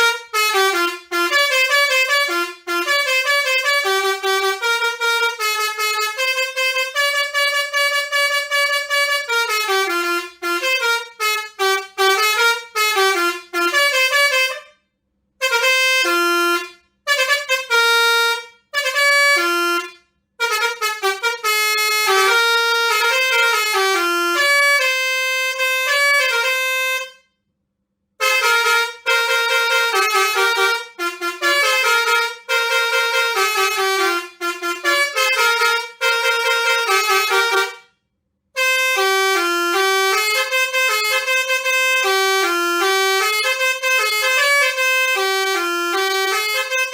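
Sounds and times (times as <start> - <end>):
melody horn playing tunes: 0.0 - 14.7, 15.4 - 27.2, 28.2 - 37.9, 38.6 - 46.9.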